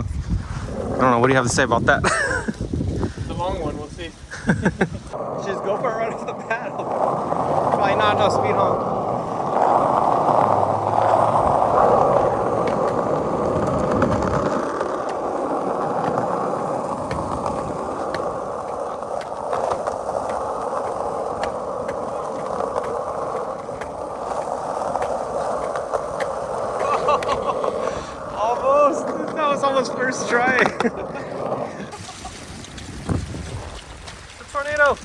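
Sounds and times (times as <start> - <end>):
skateboard rolling on pavement: 0.0 - 35.0
skateboard wheels clicking: 0.3 - 35.0.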